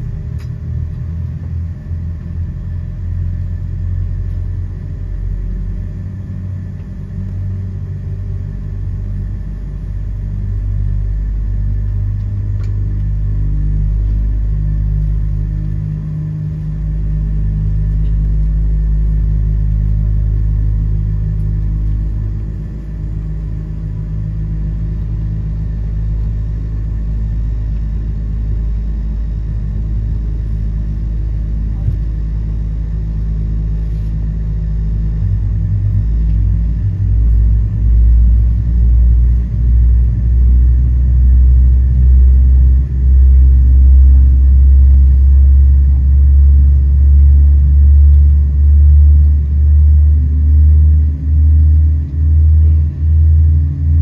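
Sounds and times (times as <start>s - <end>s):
aircraft cabin rumble: 0.0s - 54.0s
faint steady hum: 0.0s - 54.0s.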